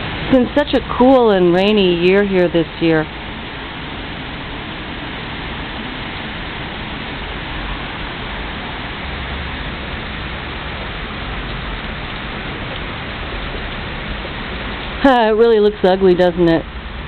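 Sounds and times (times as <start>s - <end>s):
hail and rain on gravel roof: 2.6s - 17.0s.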